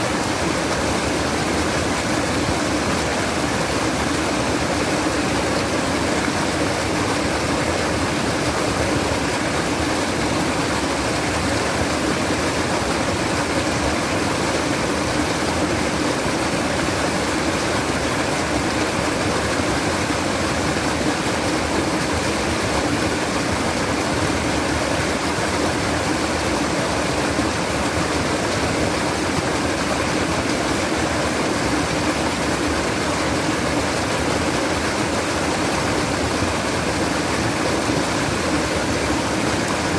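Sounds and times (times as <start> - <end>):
water running and babbling: 0.0 - 39.9.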